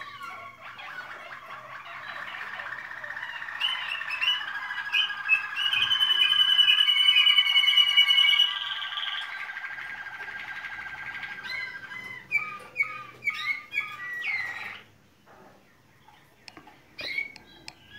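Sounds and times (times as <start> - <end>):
canary singing trills and notes: 0.0 - 17.9.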